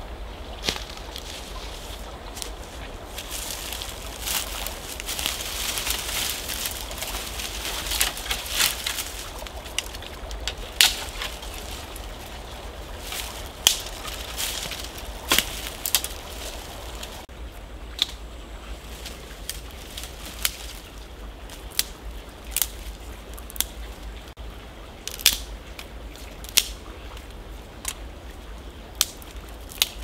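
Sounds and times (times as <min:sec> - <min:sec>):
dry branches rustling and cracking: 0:00.4 - 0:24.3, 0:25.0 - 0:30.0
twigs snapping: 0:00.6 - 0:17.2, 0:17.9 - 0:18.2, 0:18.9 - 0:23.8, 0:25.1 - 0:26.8, 0:29.0 - 0:30.0.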